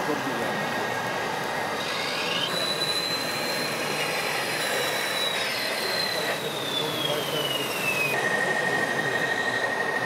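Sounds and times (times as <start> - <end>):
electric motor whine: 0.8 - 10.0.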